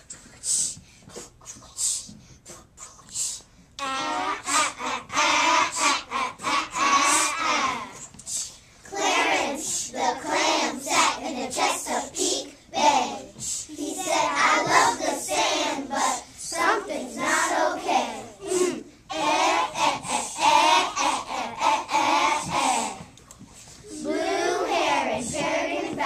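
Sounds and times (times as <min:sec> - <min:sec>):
children chanting a rap: 0:00.0 - 0:26.0.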